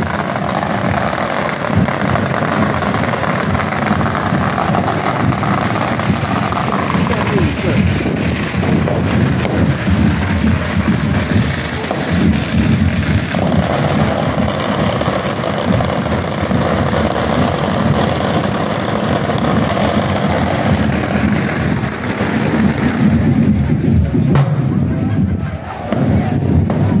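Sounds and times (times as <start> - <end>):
heavy rain: 0.0 - 25.8
band music with drumming: 0.0 - 27.0
crowd noise: 0.0 - 27.0.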